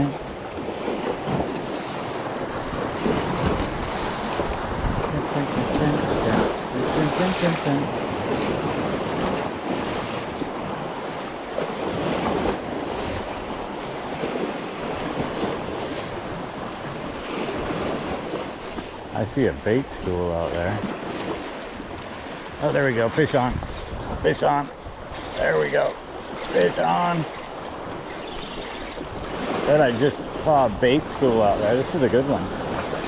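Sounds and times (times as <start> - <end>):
waves washing over rocks: 0.0 - 33.0
wind buffeting microphone: 0.0 - 33.0.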